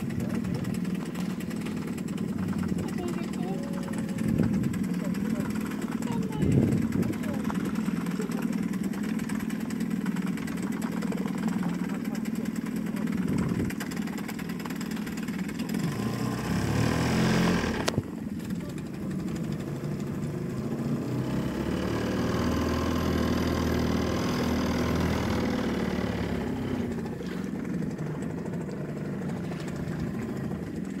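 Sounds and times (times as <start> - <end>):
outboard motor humming: 0.0 - 31.0.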